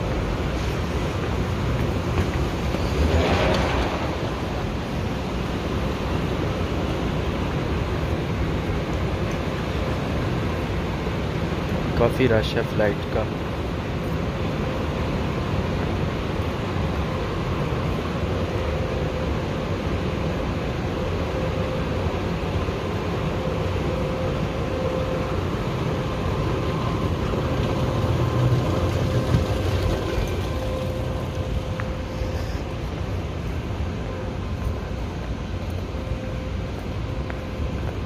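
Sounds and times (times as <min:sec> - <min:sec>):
faint steady hum: 0:00.0 - 0:38.0
low rumble of terminal hall: 0:00.0 - 0:38.0.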